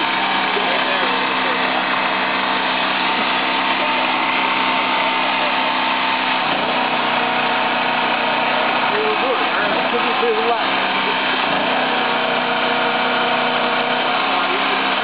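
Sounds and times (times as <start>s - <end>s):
winch motor humming: 0.0s - 15.0s.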